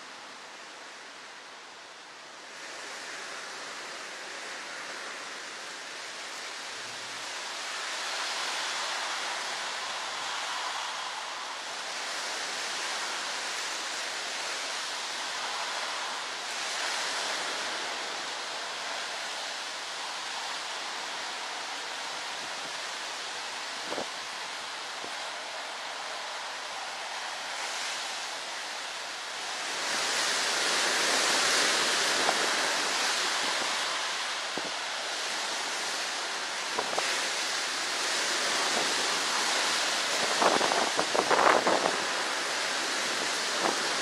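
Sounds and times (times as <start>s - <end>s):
storm wind: 0.0s - 44.0s
heavy rain rushing: 4.6s - 44.0s.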